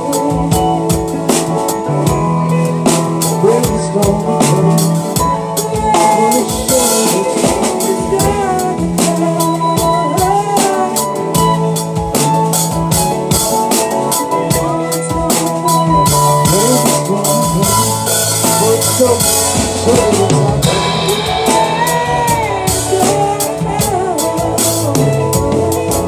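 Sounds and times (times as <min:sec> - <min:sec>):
drum kit beat: 0:00.0 - 0:26.0
lead guitar bending notes: 0:00.0 - 0:26.0
rock band playing: 0:00.0 - 0:26.0.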